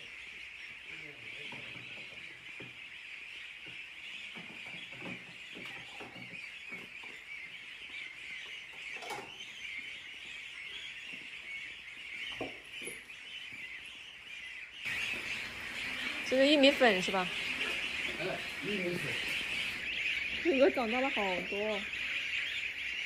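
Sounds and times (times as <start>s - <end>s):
goslings peeping: 0.0s - 23.0s.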